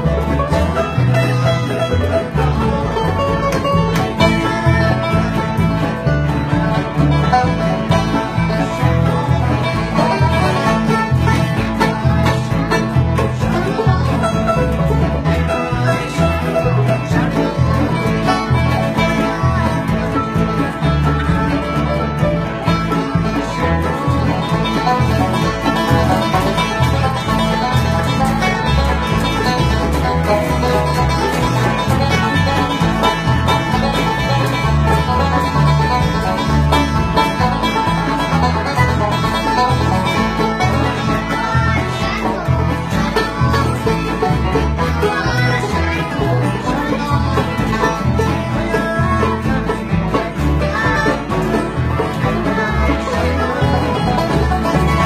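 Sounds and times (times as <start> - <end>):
banjo picking: 0.0 - 55.0
guitar picking: 0.0 - 55.0
pulsing bass: 0.0 - 55.0.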